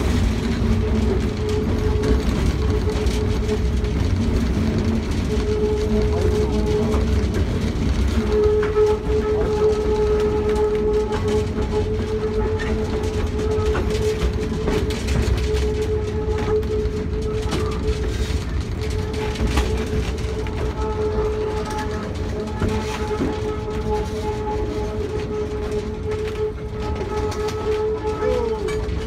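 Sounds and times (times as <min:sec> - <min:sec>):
diesel engine rumble: 0:00.0 - 0:29.0
wheels clicking over rail joints: 0:00.0 - 0:29.0.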